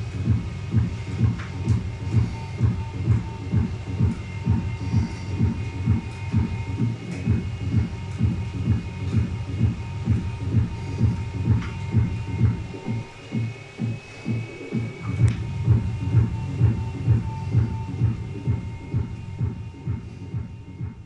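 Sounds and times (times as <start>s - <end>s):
deep bass beat thumps: 0.0s - 21.0s
faint high whining tones: 0.0s - 21.0s.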